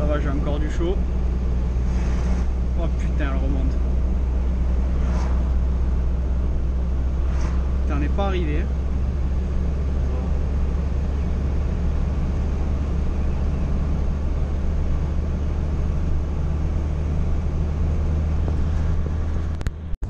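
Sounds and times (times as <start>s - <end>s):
car engine and tyre drone: 0.0s - 20.0s.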